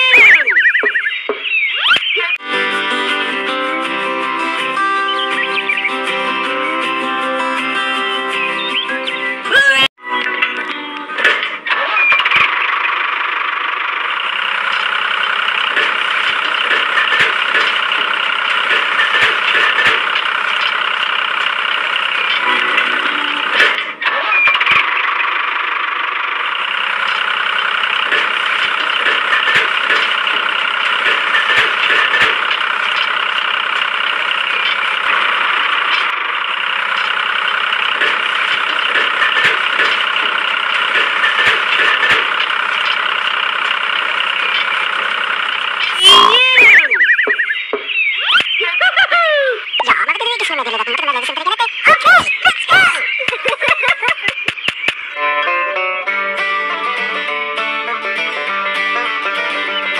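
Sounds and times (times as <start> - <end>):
rattly engine running: 2.3 - 9.5, 10.4 - 55.3.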